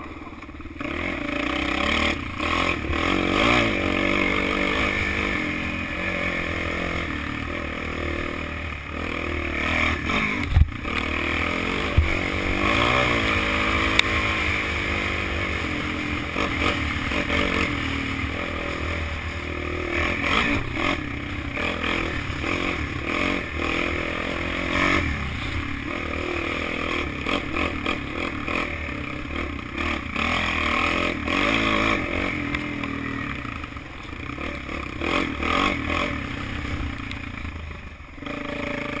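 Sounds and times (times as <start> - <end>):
quad engine revving: 0.0 - 39.0.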